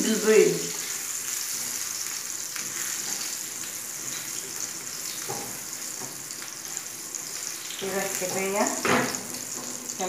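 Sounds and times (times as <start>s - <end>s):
sausage sizzling in frying pan: 0.0s - 10.0s.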